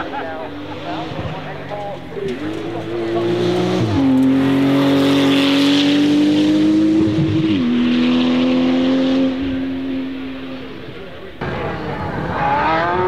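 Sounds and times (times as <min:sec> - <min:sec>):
sports car driving past: 0:00.0 - 0:13.0.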